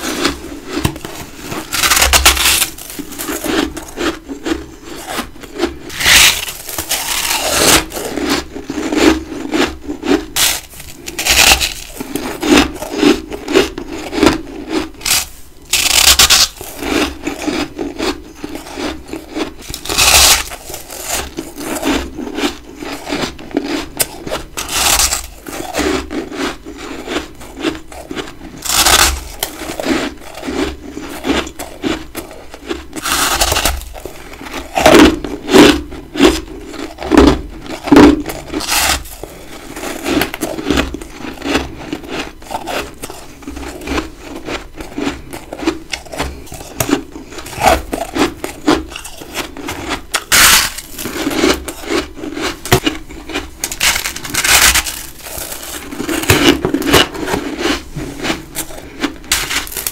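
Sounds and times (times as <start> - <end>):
crunching and chewing frost: 0.0 - 59.9.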